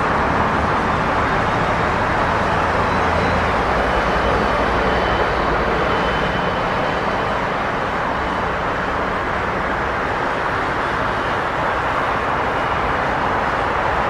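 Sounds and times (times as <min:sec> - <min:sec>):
traffic engines and tyres: 0:00.0 - 0:14.0.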